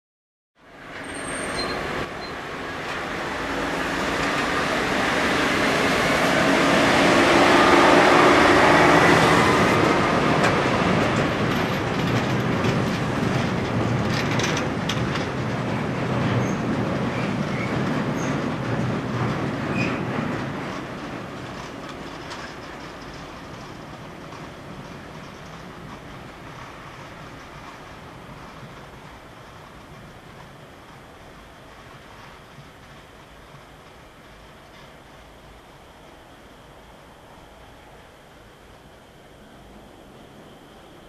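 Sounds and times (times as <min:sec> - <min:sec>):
wheels clicking on track: 0:00.8 - 0:35.9.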